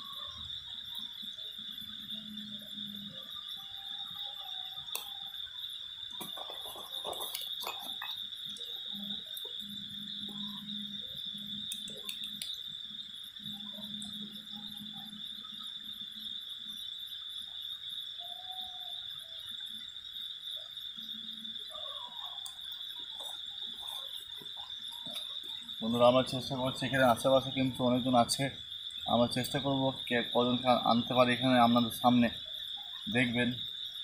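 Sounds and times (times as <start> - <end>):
night insects chirring: 0.0 - 34.0.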